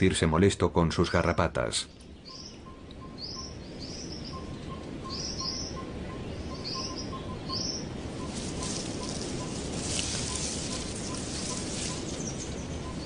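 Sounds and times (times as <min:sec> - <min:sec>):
bird chirping: 0:01.9 - 0:13.0.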